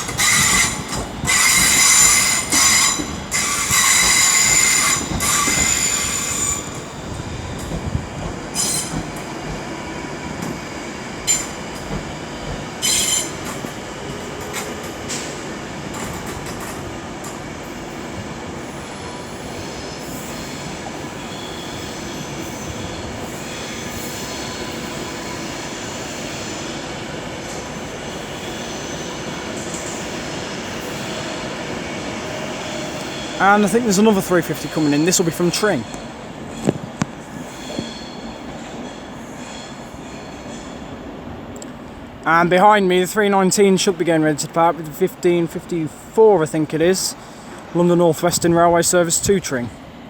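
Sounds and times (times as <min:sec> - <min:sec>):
train wheels squealing on track: 0:00.0 - 0:40.9
train rumbling: 0:00.0 - 0:50.0.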